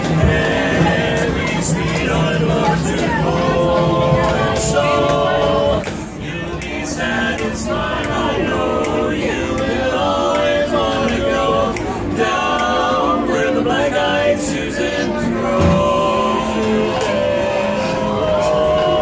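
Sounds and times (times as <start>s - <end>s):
male voices singing in harmony: 0.0s - 19.0s.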